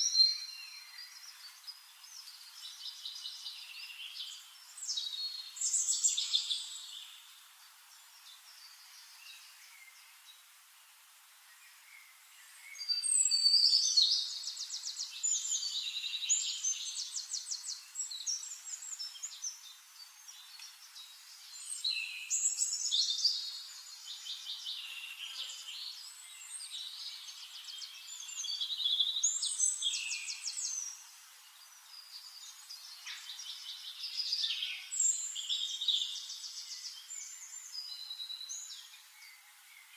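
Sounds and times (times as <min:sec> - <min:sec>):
faint steady hiss: 0:00.0 - 0:39.9
songbirds trilling and chirping: 0:00.0 - 0:39.9.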